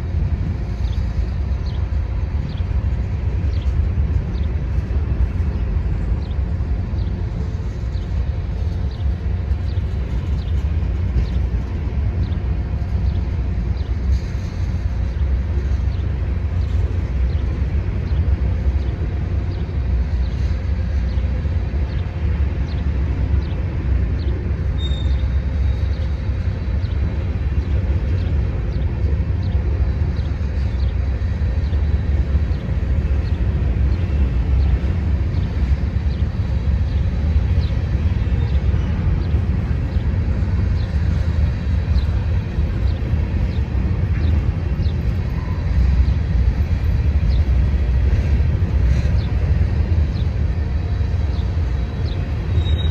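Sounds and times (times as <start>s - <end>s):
train rumbling past: 0.0s - 52.9s.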